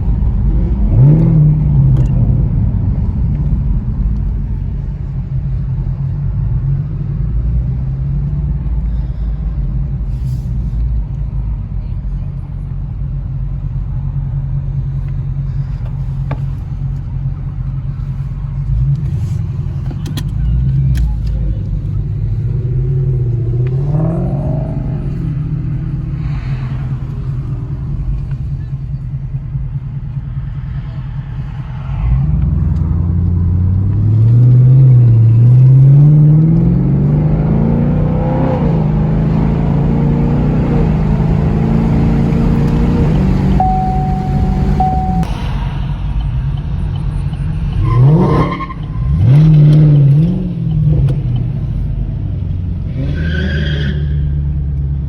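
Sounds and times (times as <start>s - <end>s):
car engine exhaust rumble: 0.0s - 53.0s.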